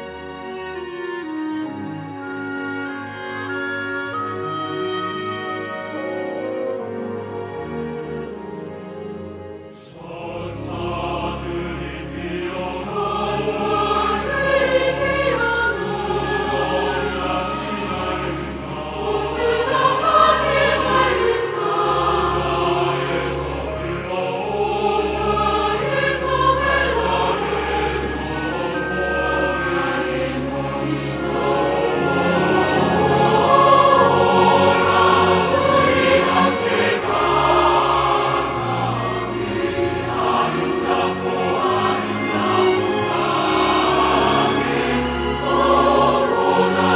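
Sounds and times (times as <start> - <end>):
choir singing a hymn: 0.0 - 46.9
orchestra with violins: 0.0 - 46.9.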